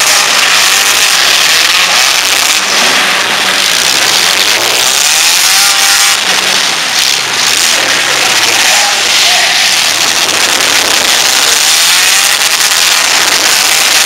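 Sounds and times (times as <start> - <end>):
demolition derby car engines revving: 0.0 - 14.0.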